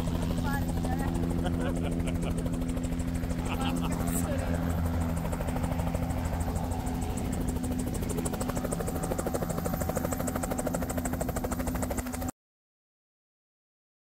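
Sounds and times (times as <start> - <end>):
helicopter rotor chop: 0.0 - 12.3.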